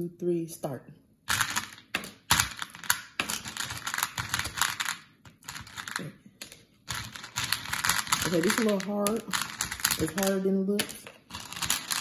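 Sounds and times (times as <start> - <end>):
candies clicking in plastic bowl: 1.3 - 12.0.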